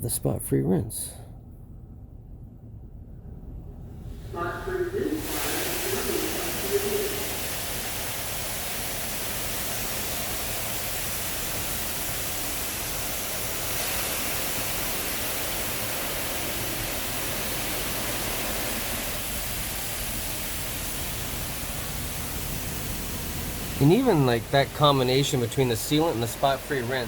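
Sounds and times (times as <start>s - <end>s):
water spraying over a van: 5.2s - 27.0s.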